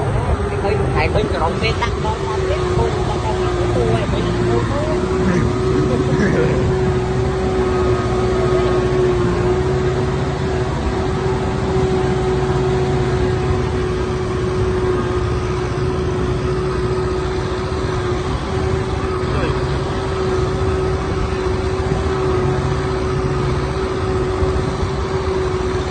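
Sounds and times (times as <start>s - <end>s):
combine harvester engine drone: 0.0s - 25.9s
steady machine whine: 0.0s - 25.9s.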